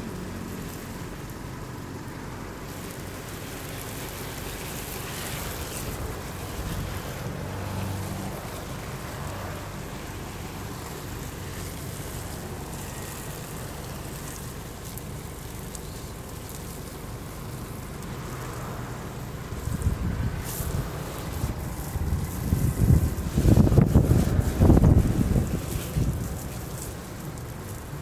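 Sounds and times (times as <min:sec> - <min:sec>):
hose spraying water on plants: 0:00.0 - 0:28.0
wind rumbling on microphone: 0:04.1 - 0:14.8, 0:15.4 - 0:28.0.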